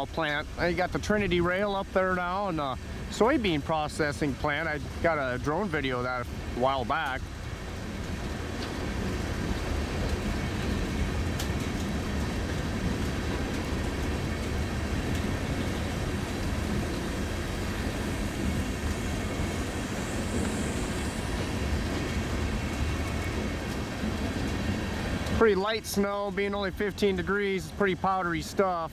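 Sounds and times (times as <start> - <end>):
steel wheels on rails: 0.0 - 28.9.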